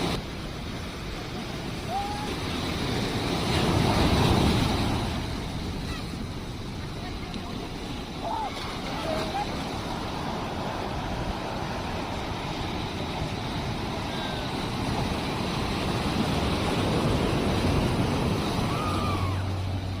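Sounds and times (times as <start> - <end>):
sea waves washing on shore: 0.0 - 20.0.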